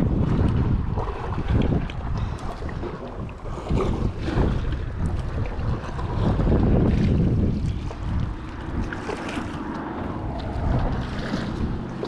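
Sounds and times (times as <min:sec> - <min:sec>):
sea water washing on rocks: 0:00.0 - 0:12.0
wind buffeting microphone: 0:00.0 - 0:12.0.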